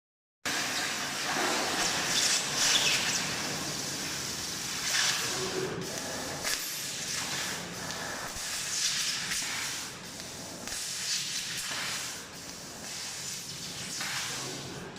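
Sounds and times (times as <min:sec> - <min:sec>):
laser cutting machine hiss: 0:00.8 - 0:14.9.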